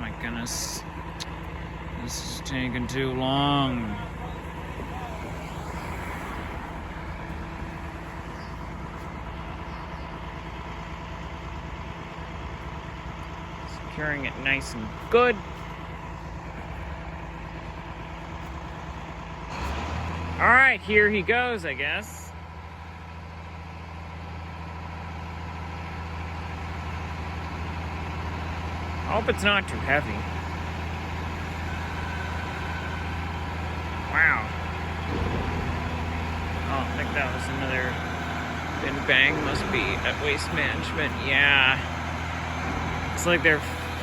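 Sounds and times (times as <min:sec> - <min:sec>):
diesel engine idling: 0:00.0 - 0:44.0.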